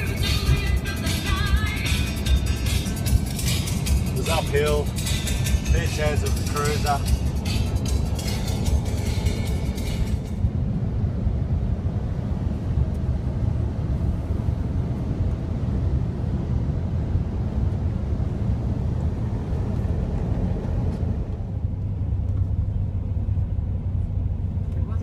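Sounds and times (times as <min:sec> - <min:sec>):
road and engine rumble in cabin: 0:00.0 - 0:25.0.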